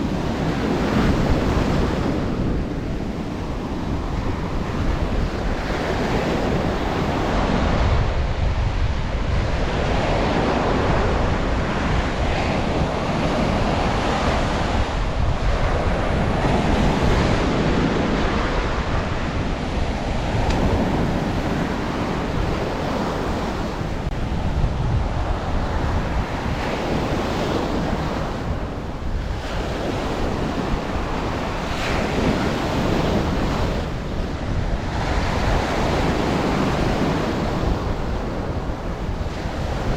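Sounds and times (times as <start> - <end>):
ocean surf breaking on shore: 0.0 - 39.9
wind buffeting microphone: 0.0 - 39.9.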